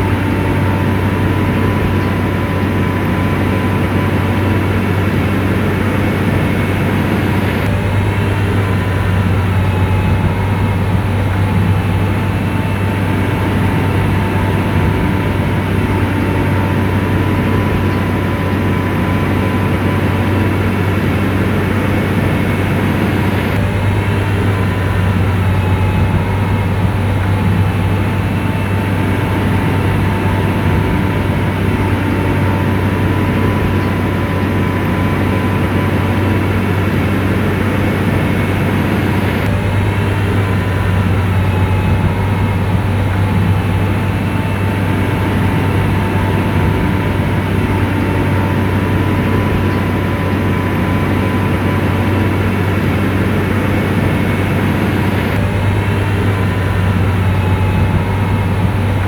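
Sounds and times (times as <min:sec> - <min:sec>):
faint steady whine: 0:00.0 - 0:59.0
heavy diesel engine droning: 0:00.0 - 0:59.0.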